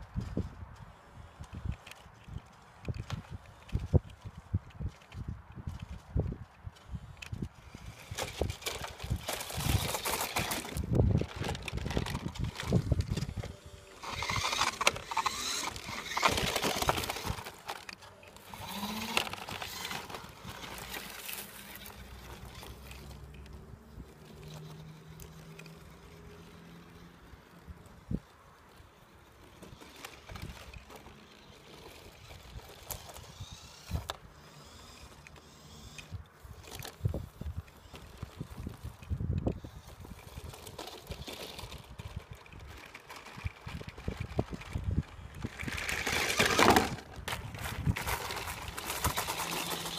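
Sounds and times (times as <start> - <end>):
toy truck driving on grass: 0.0 - 49.9
tyres crunching gravel: 0.2 - 49.9.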